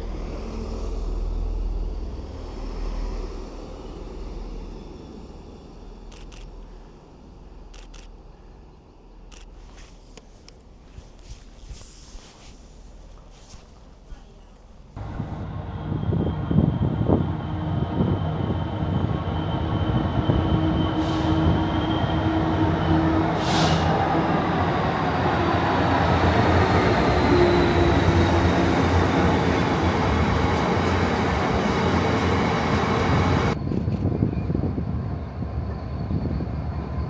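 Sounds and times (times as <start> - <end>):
train rail and engine noise: 0.0 - 37.0.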